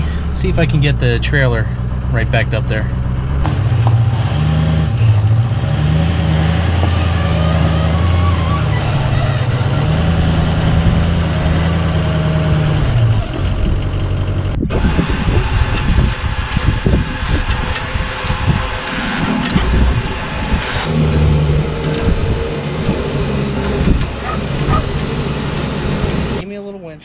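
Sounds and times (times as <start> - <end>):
rough mechanical noise with knocks: 0.0 - 26.4
truck engine at low revs: 0.0 - 26.8.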